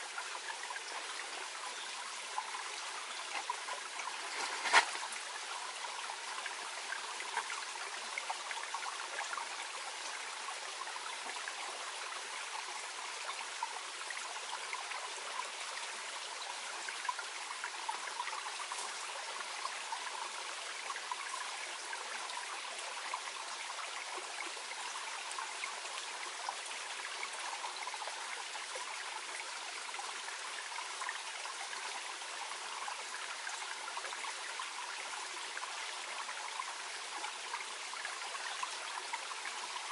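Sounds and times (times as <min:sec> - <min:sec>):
stream burbling over stones: 0:00.0 - 0:39.9.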